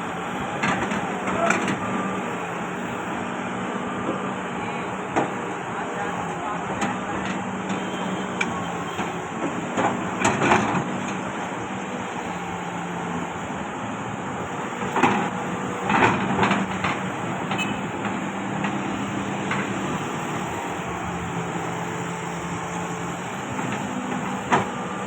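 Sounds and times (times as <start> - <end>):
excavator engine running: 0.0 - 25.0.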